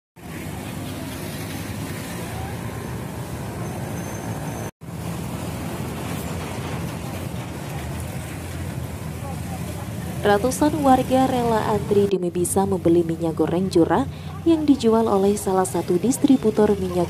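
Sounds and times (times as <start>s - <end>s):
scooters and cars passing: 0.2s - 17.0s.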